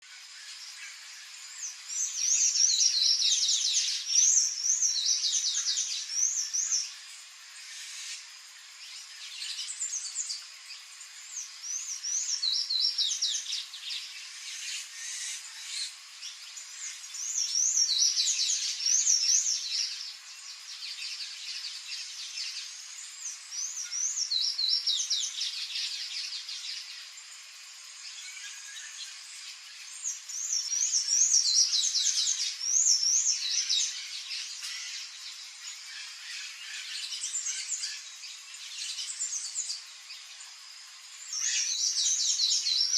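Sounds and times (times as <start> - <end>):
songbird twittering: 0.2 - 42.9.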